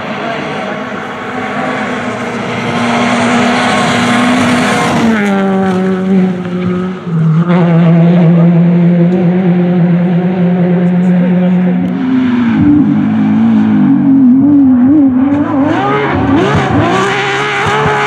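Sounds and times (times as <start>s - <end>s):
rally car passing at speed: 0.0s - 18.0s.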